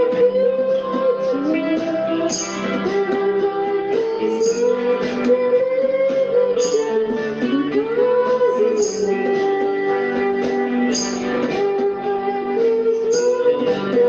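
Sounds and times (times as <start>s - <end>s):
slow guitar melody: 0.0s - 14.0s.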